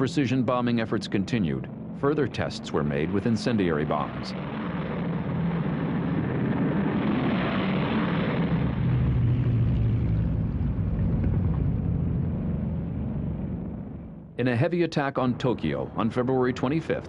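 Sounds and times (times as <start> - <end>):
bomber piston engines droning: 0.0 - 14.3.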